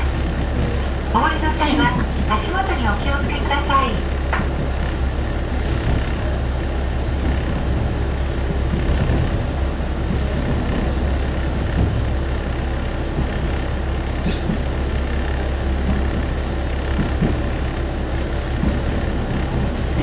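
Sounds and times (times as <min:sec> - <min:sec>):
railcar engine drone: 0:00.0 - 0:20.0
wheels on rails: 0:04.0 - 0:20.0.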